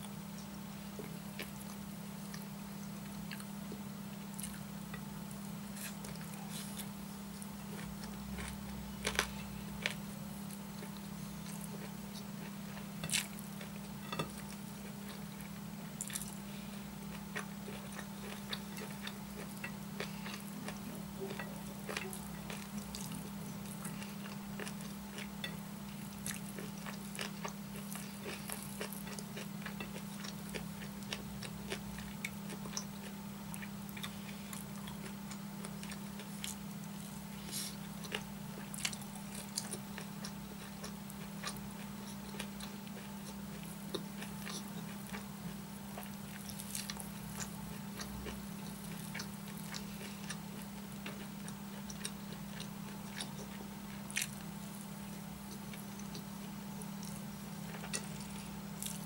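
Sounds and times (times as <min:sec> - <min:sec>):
steady low hum: 0:00.0 - 0:59.0
chewing and mouth sounds: 0:05.7 - 0:16.4, 0:17.1 - 0:59.0.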